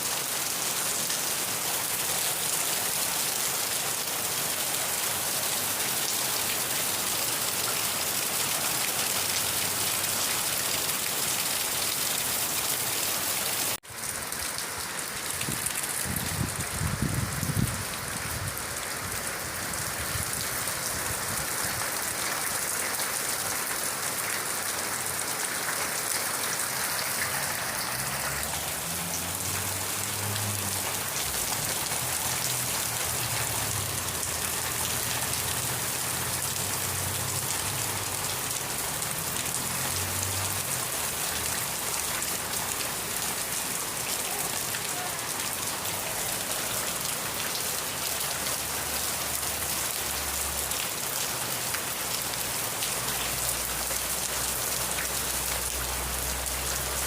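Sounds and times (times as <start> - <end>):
rain falling on surface: 0.0 - 57.0.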